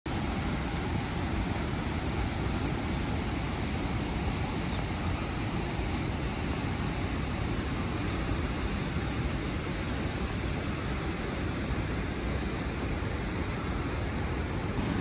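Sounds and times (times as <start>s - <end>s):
river water rushing through dam: 0.1s - 15.0s.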